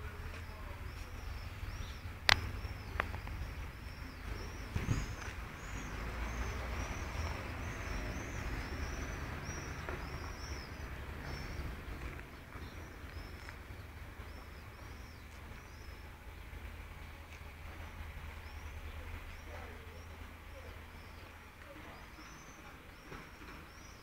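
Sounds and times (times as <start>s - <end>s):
steady low rumble: 0.0s - 23.1s
birds chirping: 0.0s - 24.0s.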